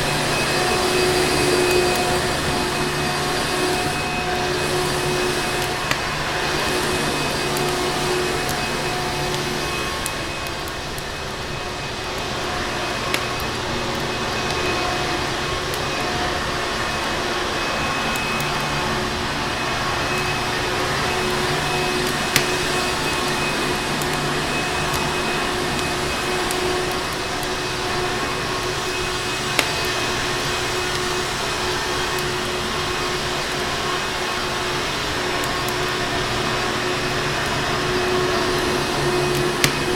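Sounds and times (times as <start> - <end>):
fireplace crackling: 0.0 - 39.9
vacuum cleaner running: 0.0 - 39.9.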